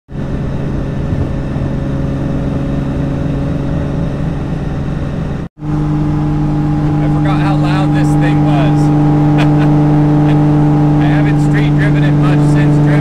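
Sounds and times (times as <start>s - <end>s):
car engine droning: 0.1s - 13.0s
road noise: 0.1s - 13.0s.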